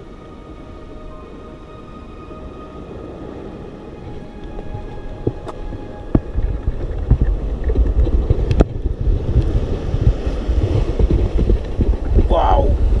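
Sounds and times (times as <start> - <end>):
surf washing on rocks: 0.0 - 13.0
wind buffeting microphone: 0.0 - 13.0.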